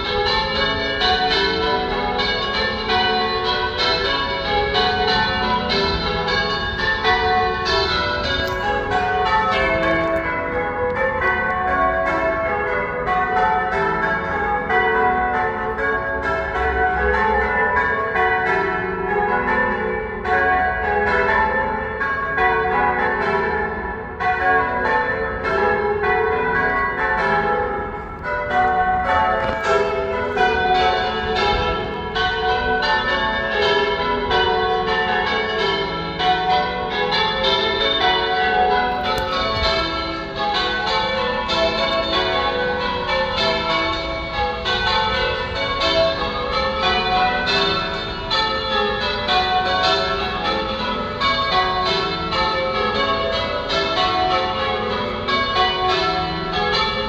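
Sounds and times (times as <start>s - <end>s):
church bells ringing: 0.0s - 57.0s.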